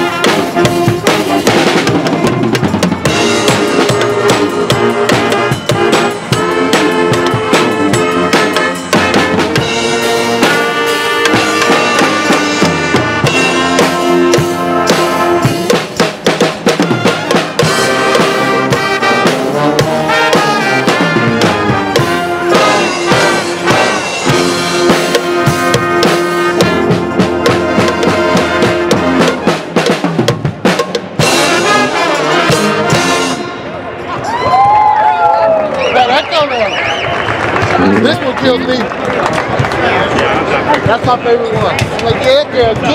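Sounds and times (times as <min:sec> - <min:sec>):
pep band playing: 0:00.0 - 0:34.8, 0:35.9 - 0:42.9.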